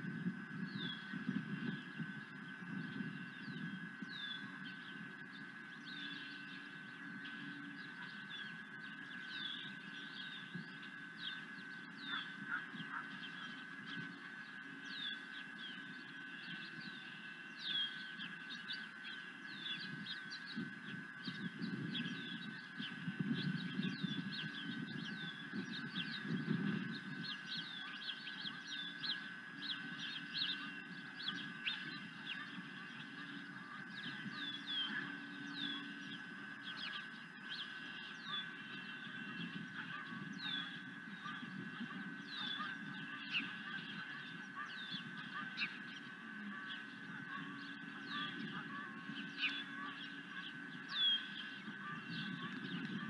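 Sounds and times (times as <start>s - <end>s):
birds chirping: 0.0s - 53.0s
steady high hum: 0.0s - 53.0s.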